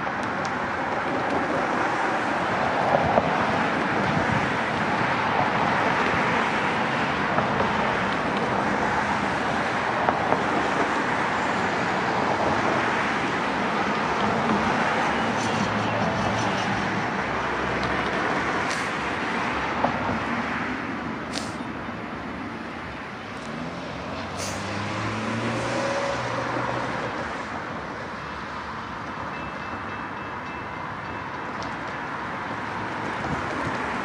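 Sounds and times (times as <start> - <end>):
train rail noise: 0.0 - 34.0.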